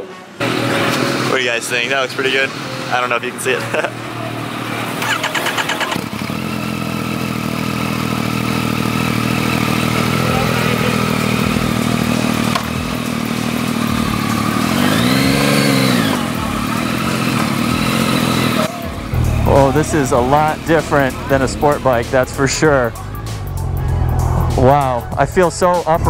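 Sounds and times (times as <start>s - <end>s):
motorcycle engine idling: 4.9s - 26.0s.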